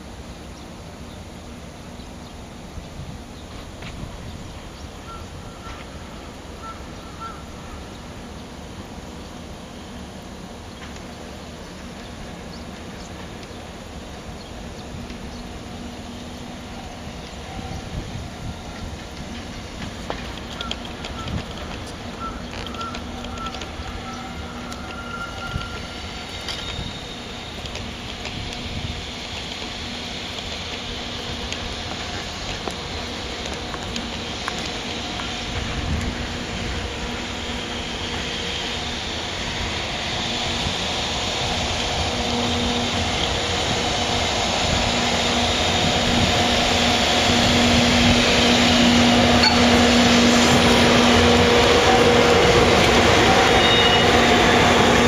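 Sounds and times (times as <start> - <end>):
freight train rail rumble: 0.0 - 55.0.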